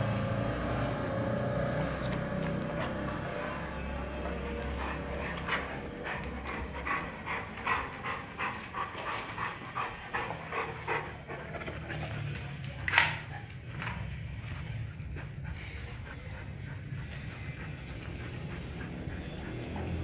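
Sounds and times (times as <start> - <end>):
dog panting: 1.0 - 20.0.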